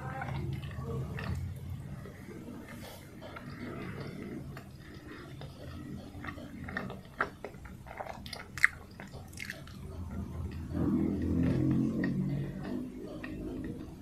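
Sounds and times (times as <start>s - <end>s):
chewing soft bun: 0.0s - 14.0s.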